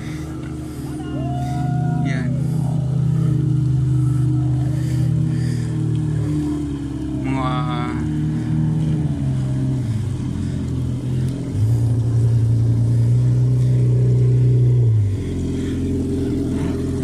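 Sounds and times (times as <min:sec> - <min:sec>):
jet ski engine droning: 0:00.0 - 0:17.0.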